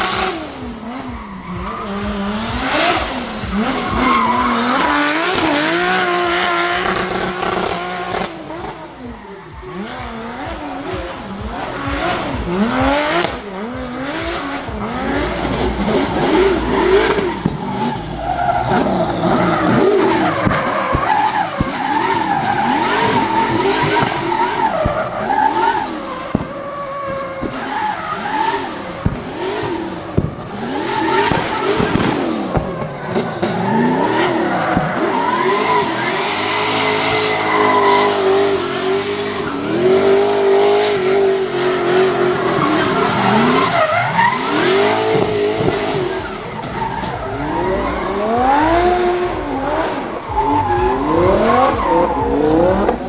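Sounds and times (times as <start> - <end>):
car engines revving hard: 0.0 - 53.0
tyres spinning and squealing: 0.0 - 53.0.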